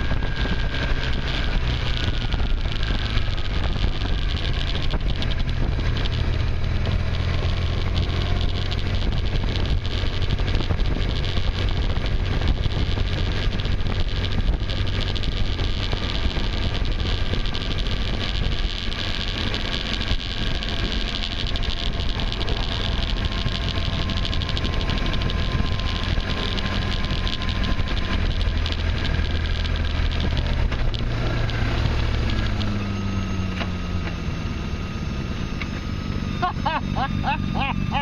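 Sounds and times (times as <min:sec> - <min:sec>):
tyre noise on dirt track: 0:00.0 - 0:38.0
vehicle engine running: 0:00.0 - 0:38.0
wind noise: 0:00.0 - 0:38.0.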